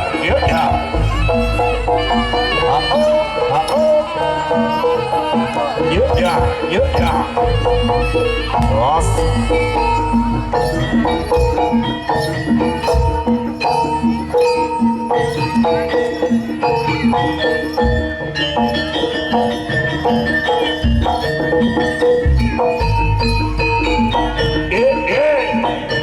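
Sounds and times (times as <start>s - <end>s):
gong-chime notes: 0.0s - 26.0s.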